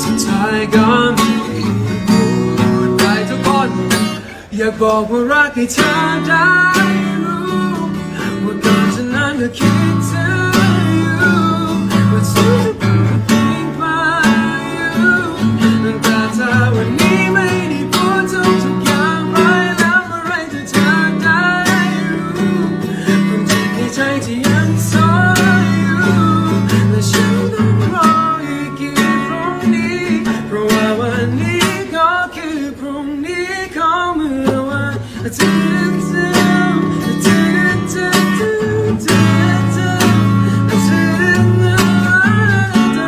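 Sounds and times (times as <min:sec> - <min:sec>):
acoustic guitar strumming: 0:00.0 - 0:43.0
man singing: 0:00.0 - 0:43.0.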